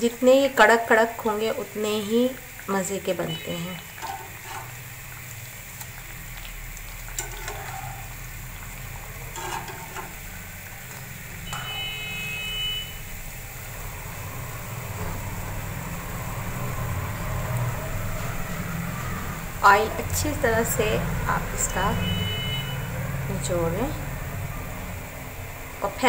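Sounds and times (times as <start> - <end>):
bread sizzling in oil: 0.0 - 26.0.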